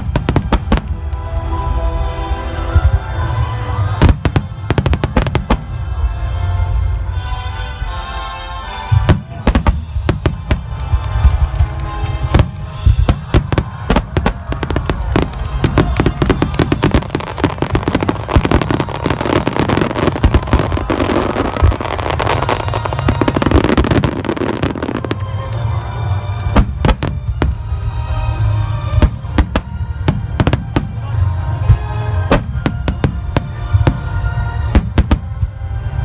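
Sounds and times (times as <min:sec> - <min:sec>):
fireworks bursting: 0:00.0 - 0:07.6, 0:08.7 - 0:36.0
music: 0:00.0 - 0:36.0.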